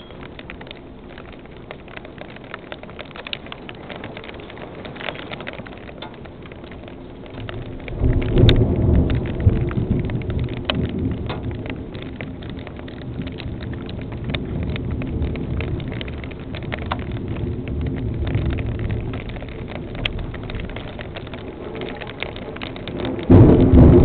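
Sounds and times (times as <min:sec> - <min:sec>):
heavy rain: 0:00.0 - 0:24.0
raindrops ticking nearby: 0:00.0 - 0:24.0.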